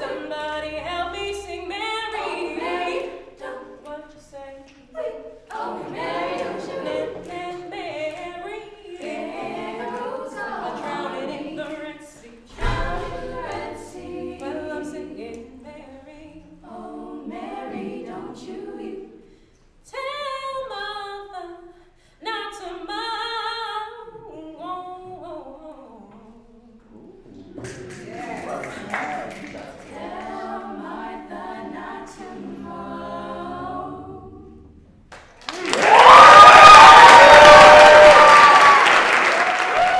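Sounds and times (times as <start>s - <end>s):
a cappella group singing: 0.0s - 35.1s.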